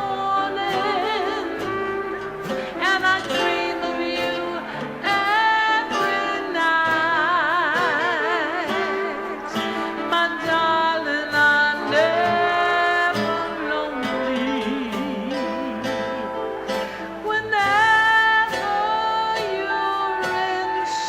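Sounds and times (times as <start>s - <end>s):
instrumental accompaniment: 0.0s - 21.0s
woman singing jazz: 0.0s - 21.0s.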